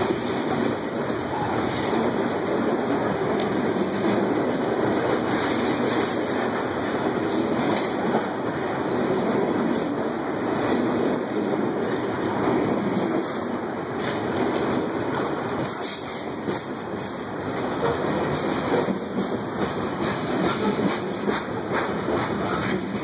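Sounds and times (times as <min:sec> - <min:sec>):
train wheels on rails: 0:00.0 - 0:23.0.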